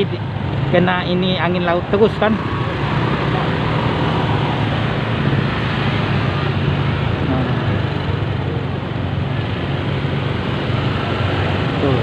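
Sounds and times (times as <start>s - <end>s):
low engine hum: 0.0s - 12.0s
road and wind noise: 0.0s - 12.0s.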